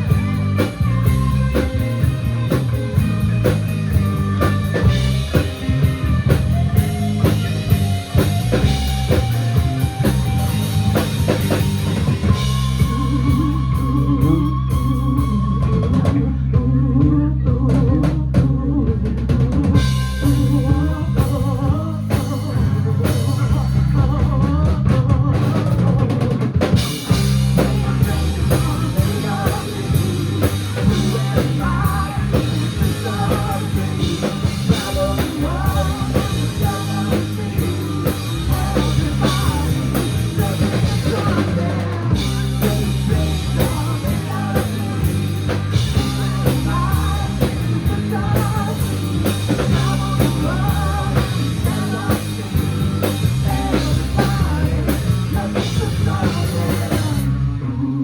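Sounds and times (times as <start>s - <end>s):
drum kit: 0.0s - 57.4s
rock band playing: 0.0s - 57.6s
bass guitar: 0.0s - 58.0s.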